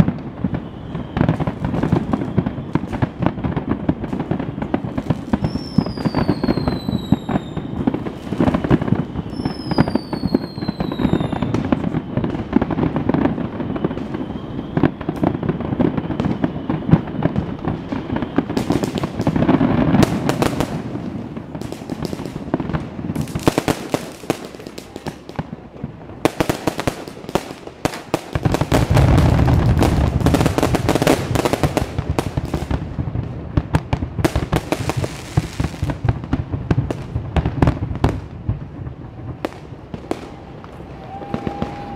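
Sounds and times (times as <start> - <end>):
falling firework whistles: 0.0 - 25.6, 26.2 - 32.8, 39.4 - 41.9
fireworks crackling and popping: 0.0 - 41.9.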